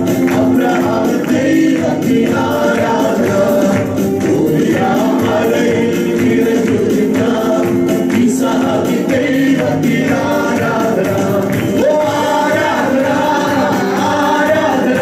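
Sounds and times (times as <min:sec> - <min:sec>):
keyboard accompaniment: 0:00.0 - 0:15.0
man singing into microphone: 0:00.0 - 0:15.0
voices singing along: 0:00.0 - 0:15.0.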